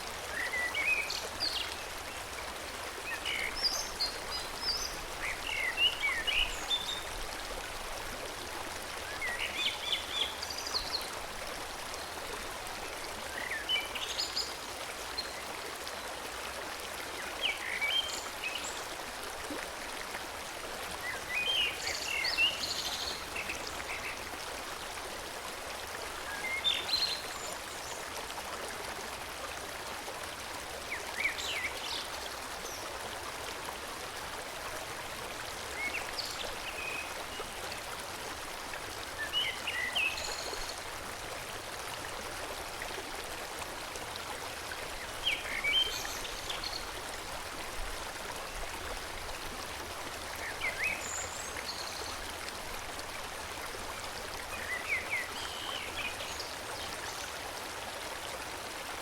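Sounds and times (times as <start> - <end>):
forest stream flowing: 0.0 - 59.0.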